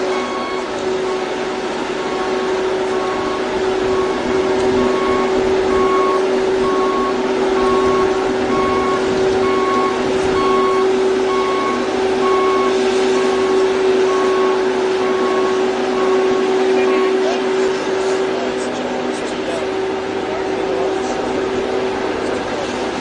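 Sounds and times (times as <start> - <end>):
heavy machinery drone: 0.0 - 23.0
reversing alarm beeping: 0.0 - 23.0.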